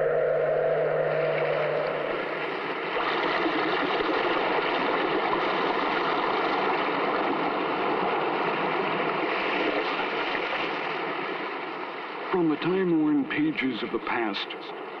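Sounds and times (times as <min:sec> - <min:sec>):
sea surf washing on shore: 0:00.4 - 0:15.0.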